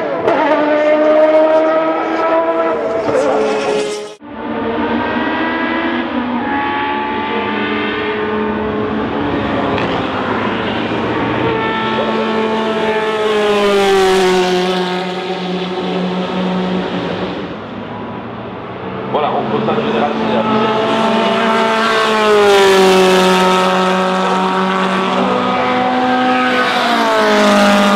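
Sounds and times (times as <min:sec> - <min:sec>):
racing car engines: 0:00.0 - 0:27.9
racing car passing close: 0:00.0 - 0:27.9.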